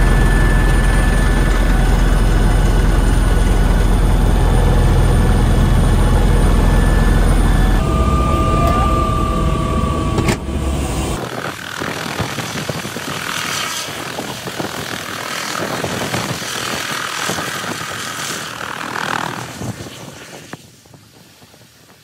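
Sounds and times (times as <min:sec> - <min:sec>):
helicopter rotor and engine: 0:00.0 - 0:21.8.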